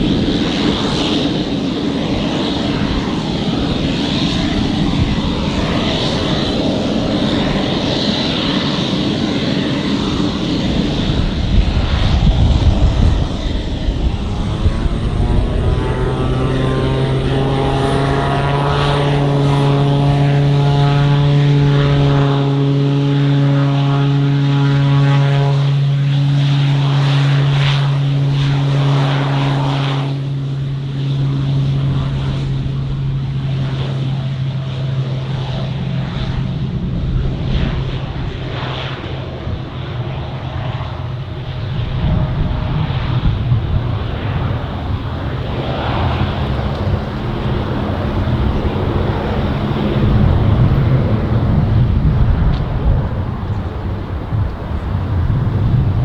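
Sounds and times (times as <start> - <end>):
low propeller hum: 0.0 - 56.0
turboprop engine running: 0.0 - 56.0.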